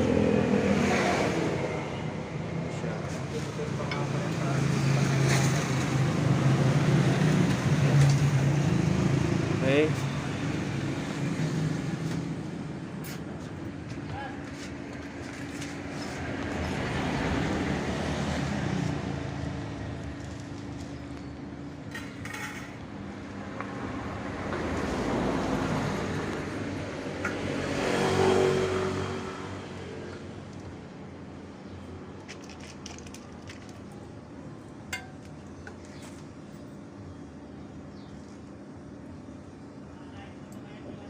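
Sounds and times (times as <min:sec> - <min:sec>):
road traffic passing: 0:00.0 - 0:41.0.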